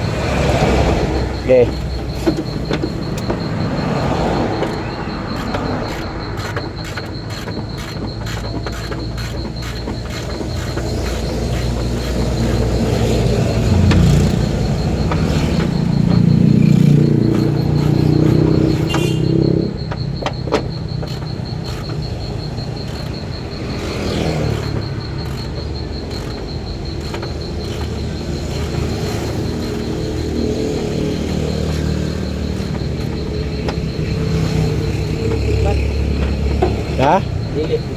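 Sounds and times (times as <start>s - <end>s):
vehicle engine running: 0.0s - 37.9s.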